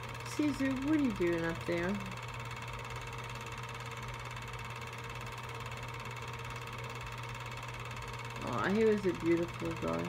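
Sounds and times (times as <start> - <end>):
film projector running: 0.0 - 10.0.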